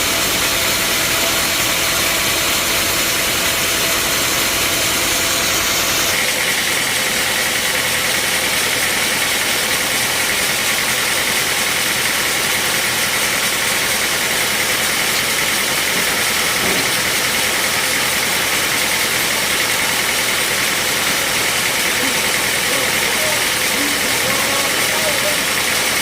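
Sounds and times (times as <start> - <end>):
bandsaw sawmill running: 0.0 - 26.0.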